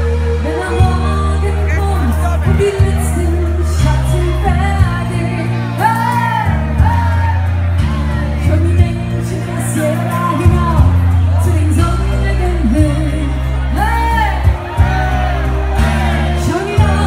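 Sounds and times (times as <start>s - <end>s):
woman singing into microphone: 0.0s - 14.6s, 15.8s - 17.0s
amplified backing music: 0.0s - 17.0s
bass line: 0.0s - 17.0s.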